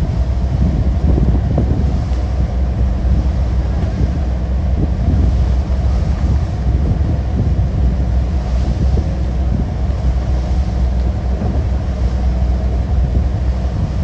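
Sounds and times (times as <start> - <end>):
boat engine rumbling: 0.0 - 14.0
boat wake rushing: 0.0 - 14.0
wind buffeting microphone: 0.0 - 14.0.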